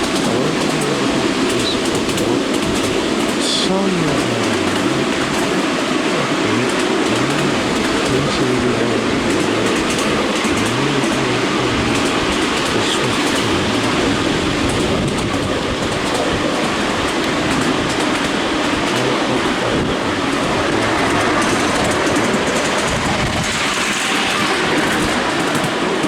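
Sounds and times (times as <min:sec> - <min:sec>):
wheels running on rails: 0:00.0 - 0:26.0.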